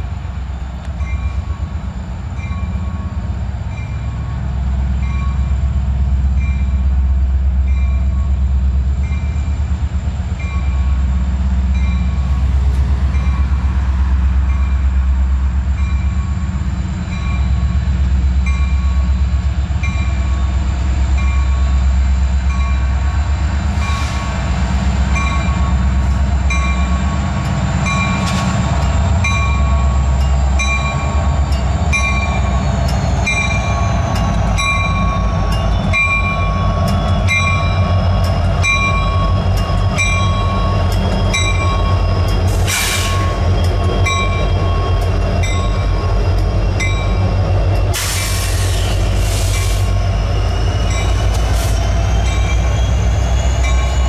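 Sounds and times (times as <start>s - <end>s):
diesel locomotive rumble: 0.0s - 54.0s.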